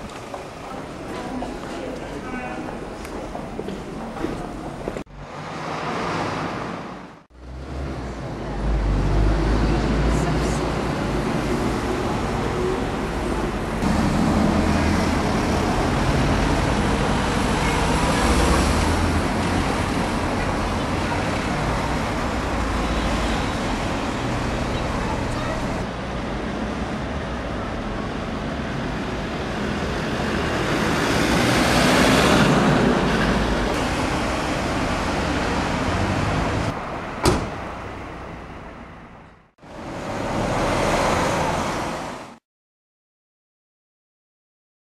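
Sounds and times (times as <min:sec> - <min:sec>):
cars passing close by: 0:00.0 - 0:42.4.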